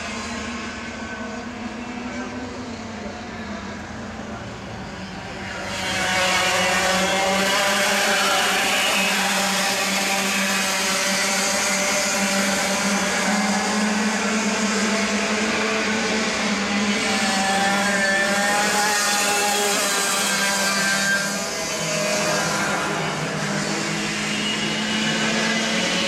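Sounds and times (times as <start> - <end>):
racing kart engines: 0.0 - 26.0.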